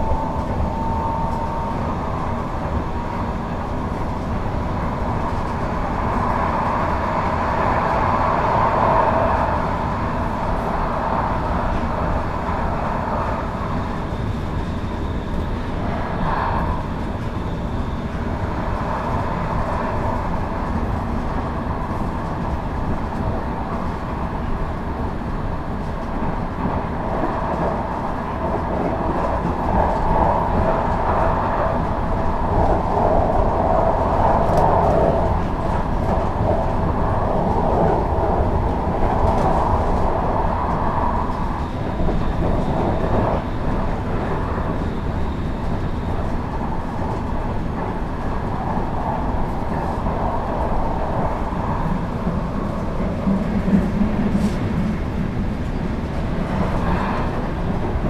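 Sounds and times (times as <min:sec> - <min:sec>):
light-rail car rolling on track: 0:00.0 - 0:58.0.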